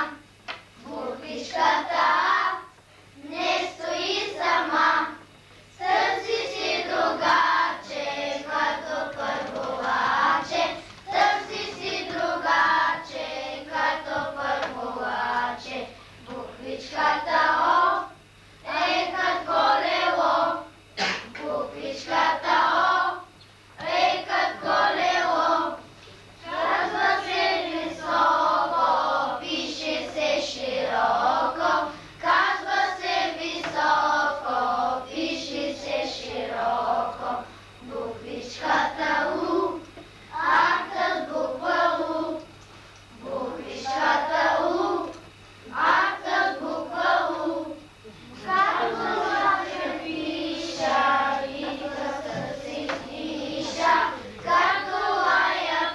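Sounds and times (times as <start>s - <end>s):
children singing in unison: 0.8s - 5.2s, 5.8s - 42.5s, 43.1s - 55.9s.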